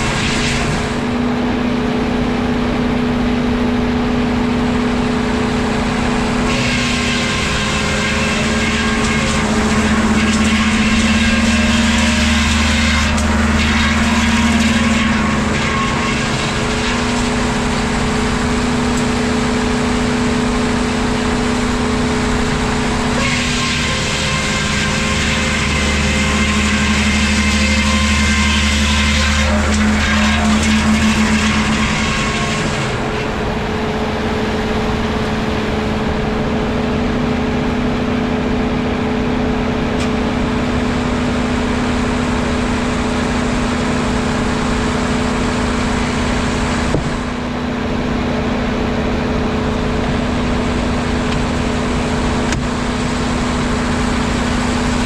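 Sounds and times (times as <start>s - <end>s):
sawmill machinery humming: 0.0s - 55.0s.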